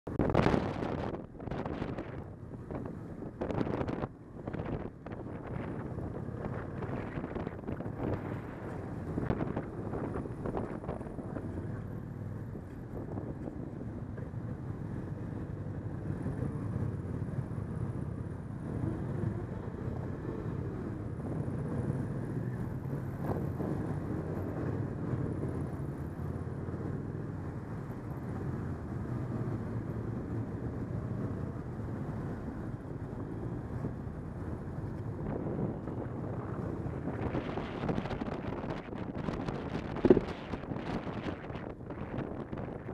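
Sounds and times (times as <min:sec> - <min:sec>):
motorcycle engine rumbling: 0:00.1 - 0:42.9.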